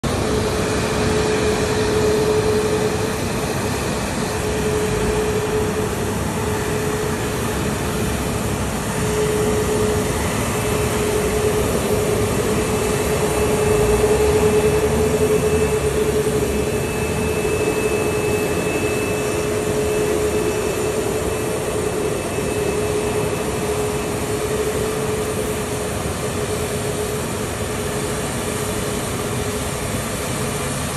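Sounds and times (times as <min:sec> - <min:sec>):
jet engines rushing and humming: 0:00.0 - 0:30.9.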